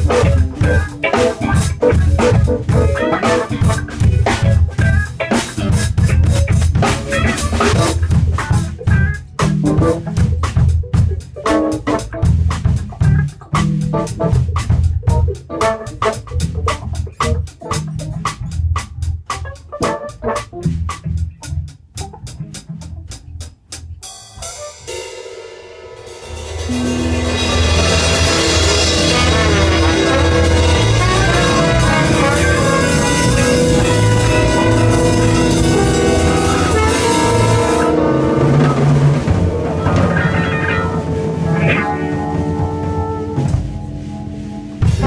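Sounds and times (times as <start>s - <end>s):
steady low bass notes: 0.0s - 24.0s, 26.7s - 45.0s
drum kit playing: 0.0s - 45.0s.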